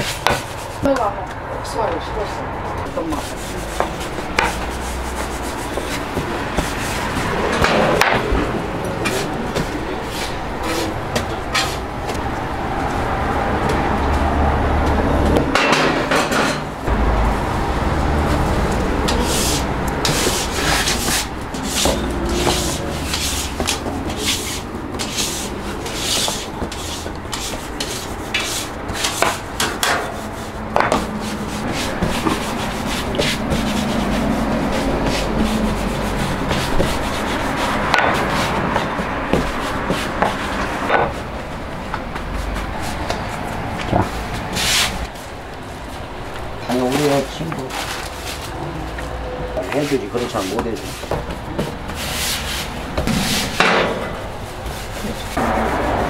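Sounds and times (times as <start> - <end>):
dough rubbed on wooden board: 0.0 - 1.1, 2.2 - 7.8, 9.0 - 11.9, 18.3 - 41.4, 42.2 - 46.0, 46.7 - 56.0
rolling pin rolling dough: 0.0 - 2.0, 2.7 - 12.2, 18.0 - 56.0.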